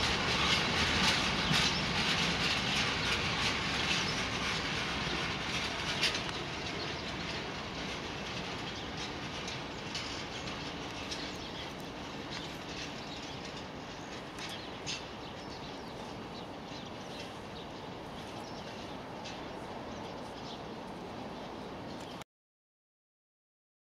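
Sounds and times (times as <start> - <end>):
freight train rumble: 0.0 - 22.2
steady background hum: 0.0 - 22.2
small birds chirping: 0.4 - 22.2.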